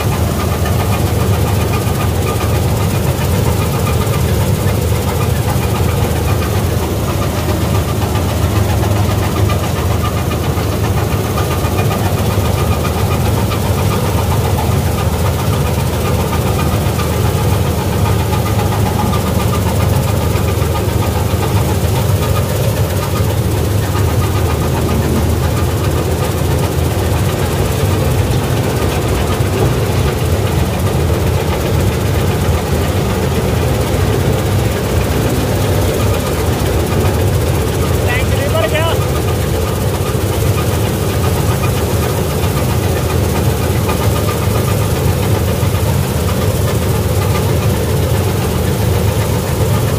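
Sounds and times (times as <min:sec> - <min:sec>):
combine harvester engine drone: 0:00.0 - 0:49.9
threshing machinery noise: 0:00.0 - 0:49.9.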